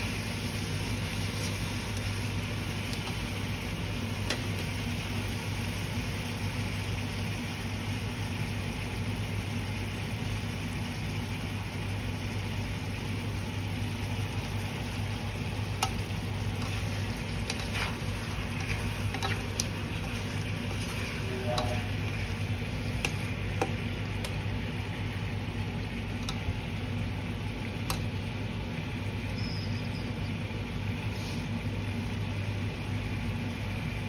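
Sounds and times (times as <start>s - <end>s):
food sizzling in frying pan: 0.0s - 34.0s.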